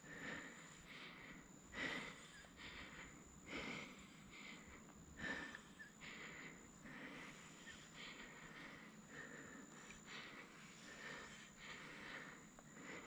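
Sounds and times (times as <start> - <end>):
faint steady high whine: 0.0 - 13.0
person breathing quickly: 0.0 - 13.0.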